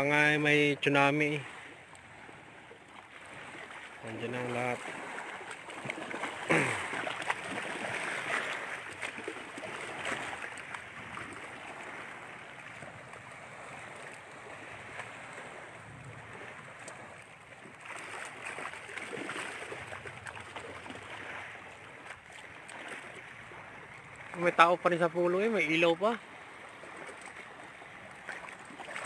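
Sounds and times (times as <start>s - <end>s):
waves washing against shore: 0.0s - 29.0s.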